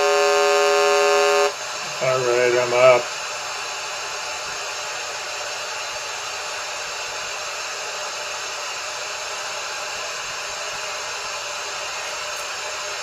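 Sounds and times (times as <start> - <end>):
white noise hiss: 0.0 - 13.0.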